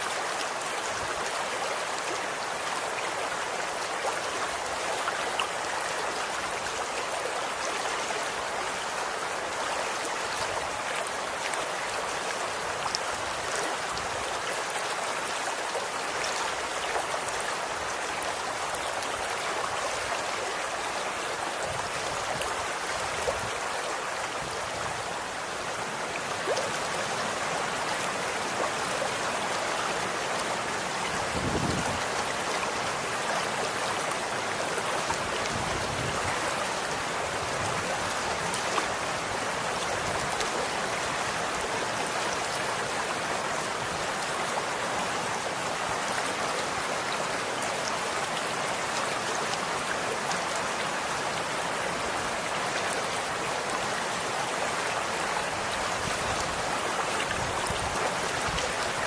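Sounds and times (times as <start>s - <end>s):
running water babbling: 0.0s - 59.0s.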